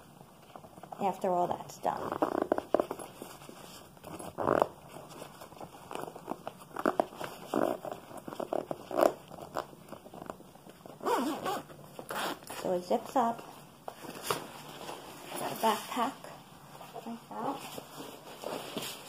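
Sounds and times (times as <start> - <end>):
fabric and plastic tubing rustling: 0.0 - 19.0.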